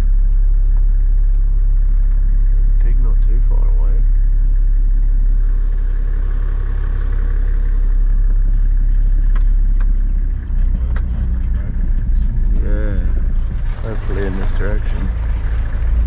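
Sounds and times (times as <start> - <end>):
vehicle engine droning: 0.0 - 16.0
vehicle rattles: 0.0 - 16.0.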